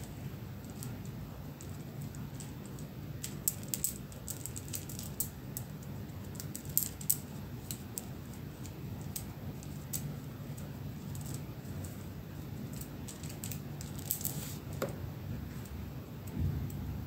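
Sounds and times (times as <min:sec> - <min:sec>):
beads clicking together: 0:00.0 - 0:14.4
faint low hum: 0:00.0 - 0:17.0.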